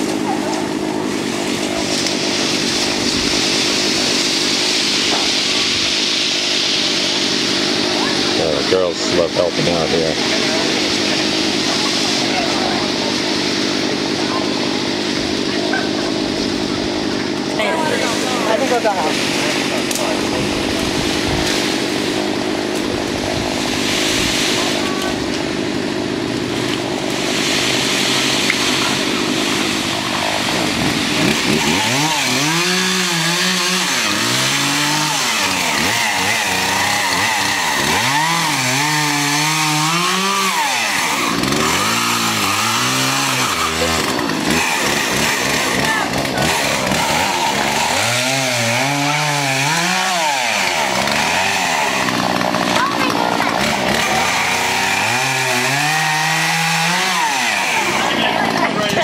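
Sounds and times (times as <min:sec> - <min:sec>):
chainsaw cutting branches: 0:00.0 - 0:59.0.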